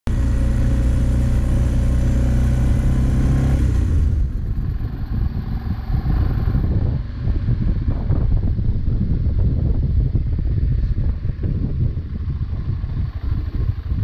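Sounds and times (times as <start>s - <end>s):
motorcycle engine running: 0.1s - 14.0s
wind rumble on microphone: 0.1s - 14.0s.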